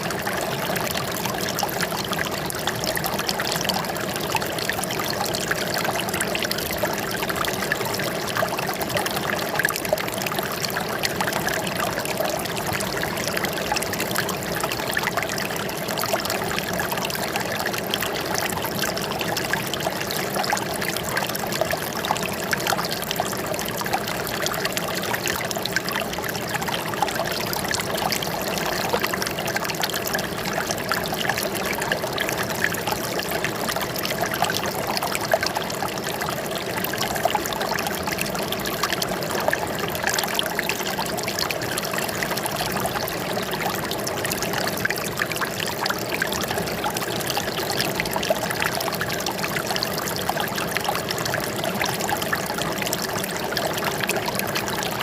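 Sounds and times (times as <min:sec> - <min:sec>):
running water trickling and splashing: 0:00.0 - 0:55.0.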